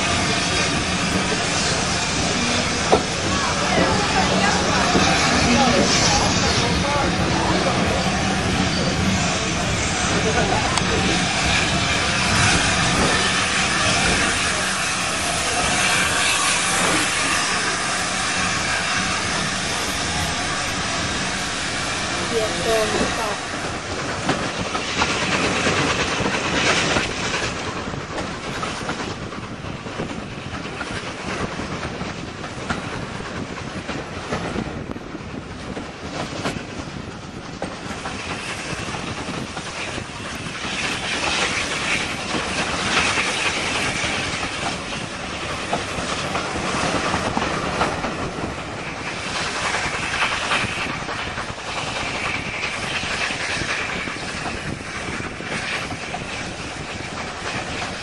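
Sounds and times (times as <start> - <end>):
train wheels on track: 0.0 - 58.0.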